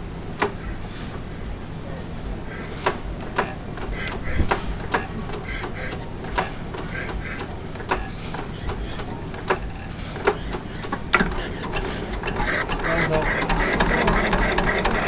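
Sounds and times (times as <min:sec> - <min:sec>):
marine engine humming with ticks: 0:00.0 - 0:15.0.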